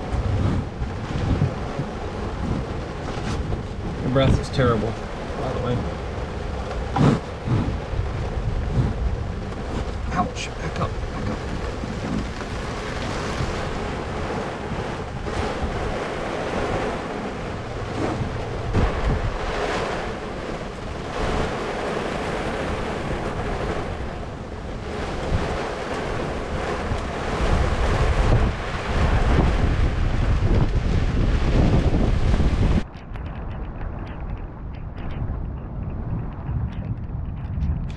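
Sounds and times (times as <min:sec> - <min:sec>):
steady rain: 0:00.0 - 0:37.9
wind buffeting microphone: 0:00.0 - 0:37.9.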